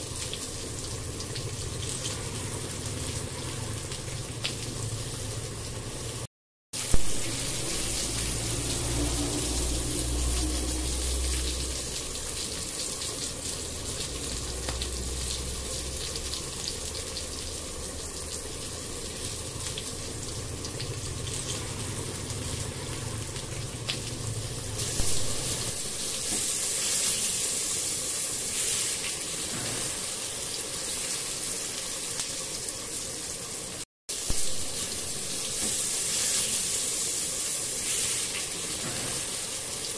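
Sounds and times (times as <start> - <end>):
food sizzling in a pan: 0.0 - 39.9
water hissing in hot pan: 0.0 - 39.9.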